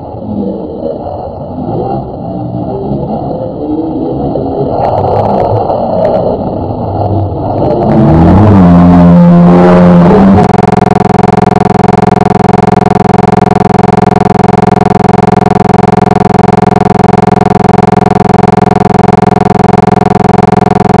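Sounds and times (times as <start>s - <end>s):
buzzy electronic drone: 0.0s - 21.0s.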